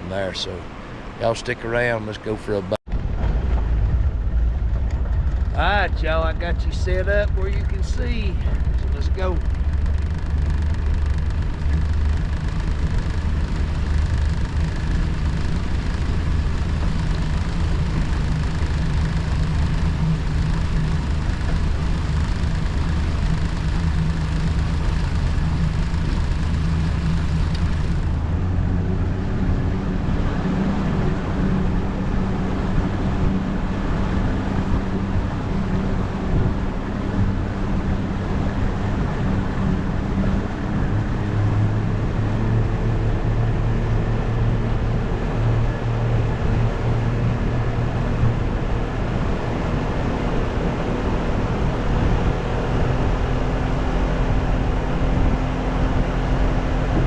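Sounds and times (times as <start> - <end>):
constant rushing noise: 0.0 - 57.0
boat motor droning: 3.1 - 57.0.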